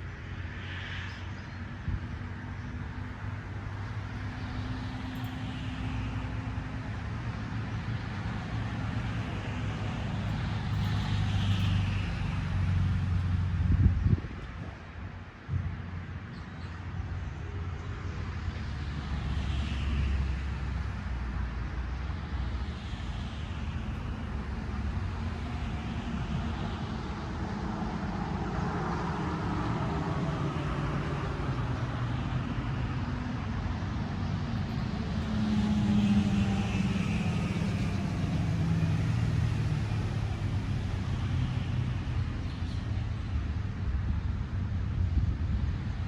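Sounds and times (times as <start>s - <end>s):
road traffic rumble: 0.0s - 46.0s
vehicles passing: 0.0s - 46.0s.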